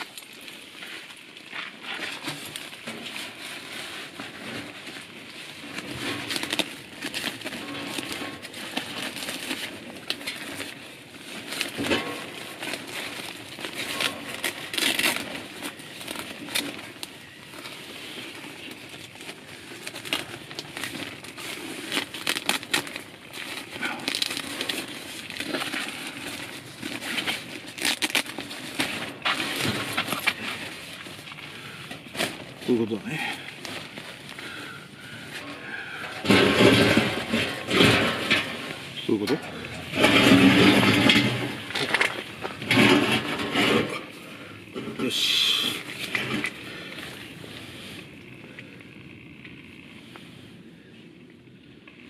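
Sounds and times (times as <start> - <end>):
tent fabric rustling: 0.0 - 48.4.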